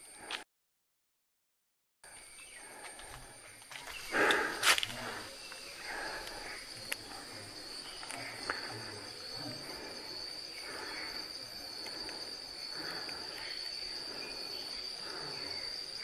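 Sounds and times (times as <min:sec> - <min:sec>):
insects chirring: 0:02.0 - 0:16.0.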